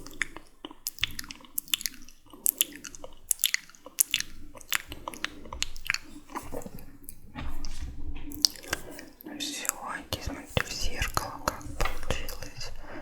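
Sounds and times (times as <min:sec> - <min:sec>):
wet lip and tongue smacks: 0:00.0 - 0:12.9.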